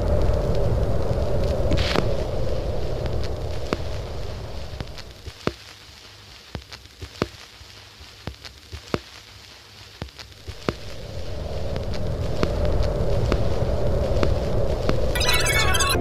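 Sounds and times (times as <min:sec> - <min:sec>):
faint hiss: 0:01.8 - 0:14.8.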